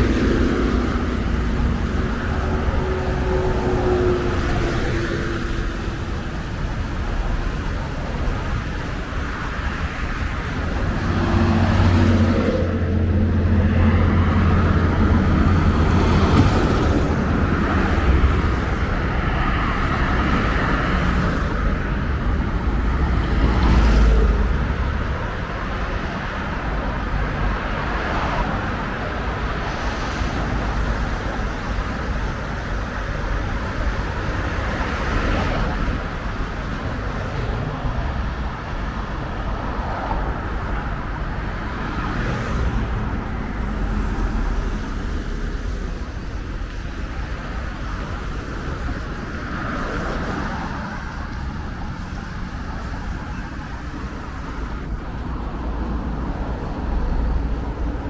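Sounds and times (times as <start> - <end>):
cars driving by: 0.0 - 58.0
road noise: 0.0 - 58.0.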